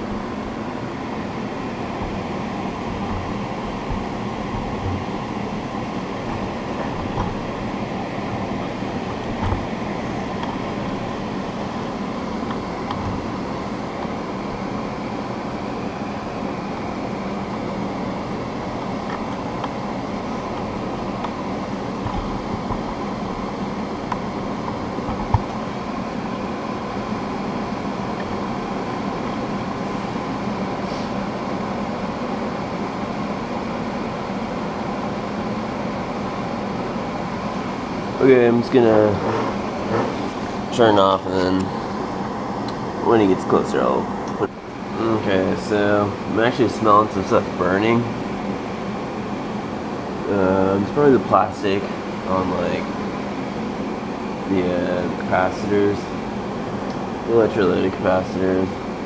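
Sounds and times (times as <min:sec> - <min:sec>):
electric fan droning: 0:00.0 - 0:59.0.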